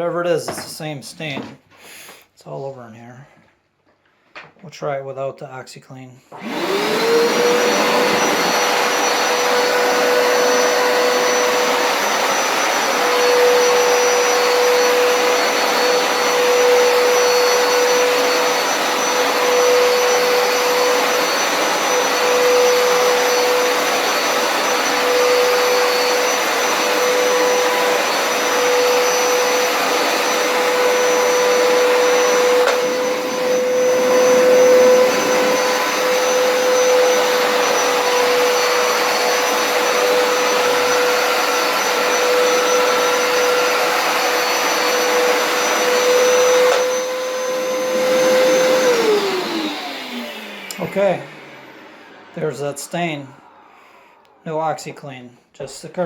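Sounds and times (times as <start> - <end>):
carpet cleaner motor whine: 6.3 - 54.3
rushing suction noise: 6.4 - 54.7.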